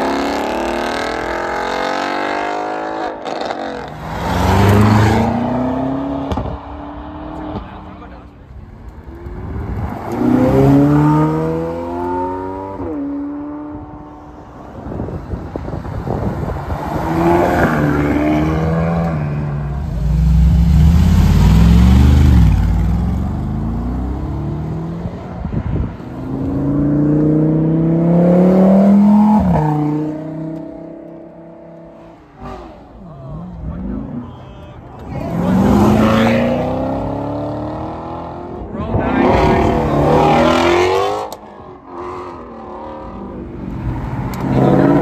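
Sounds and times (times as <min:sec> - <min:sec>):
sports cars accelerating: 0:00.0 - 0:34.4, 0:35.0 - 0:45.0.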